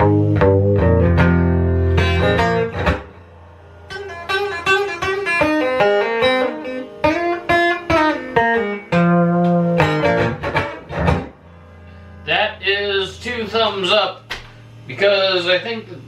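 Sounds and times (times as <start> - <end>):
electric guitar notes and chords: 0.0 - 14.8
amplifier hum: 0.0 - 16.0.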